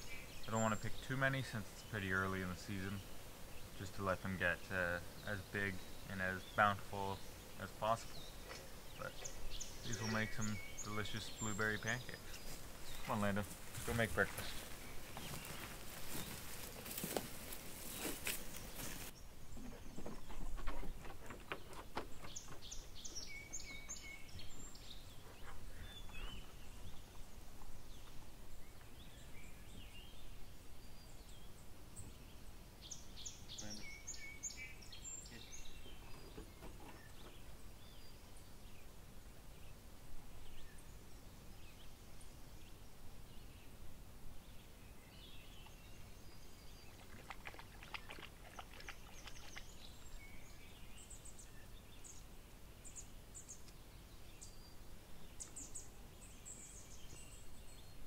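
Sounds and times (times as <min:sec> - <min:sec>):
birds chirping: 0:00.0 - 0:58.0
outdoor background hiss: 0:00.0 - 0:58.0.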